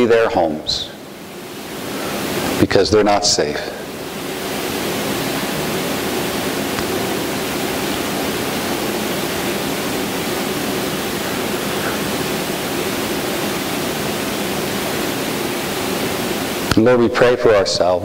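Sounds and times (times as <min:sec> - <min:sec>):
equipment noise hiss: 0:00.0 - 0:18.0.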